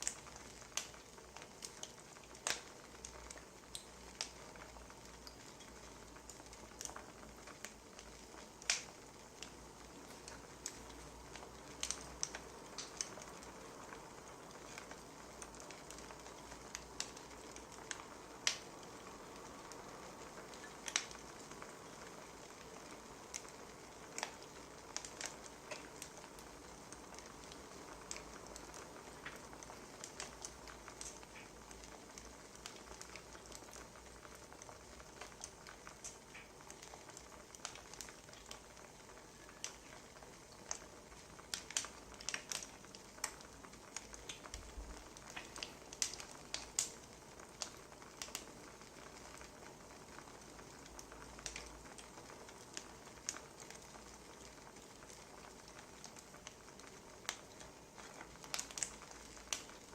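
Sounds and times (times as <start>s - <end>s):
sharp pops and snaps: 0.0s - 59.9s
wood fire crackling: 0.0s - 59.9s.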